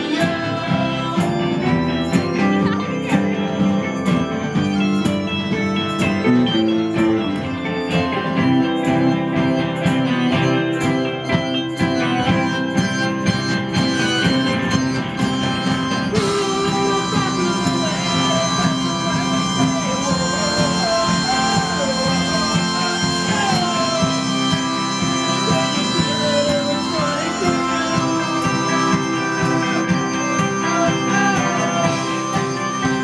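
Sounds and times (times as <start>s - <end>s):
drums keeping a steady beat: 0.0s - 33.0s
electronic keyboard: 0.0s - 33.0s
strummed acoustic guitar: 0.0s - 33.0s.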